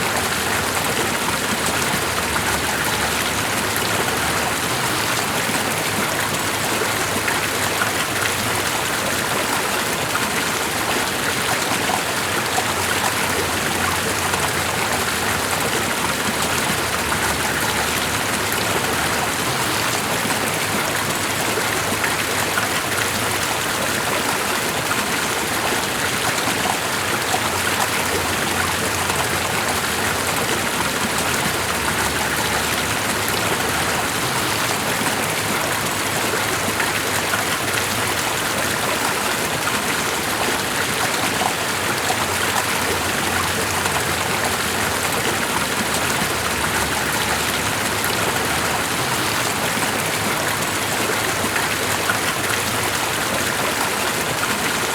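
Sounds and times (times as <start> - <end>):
rushing water with dense patter: 0.0 - 54.9.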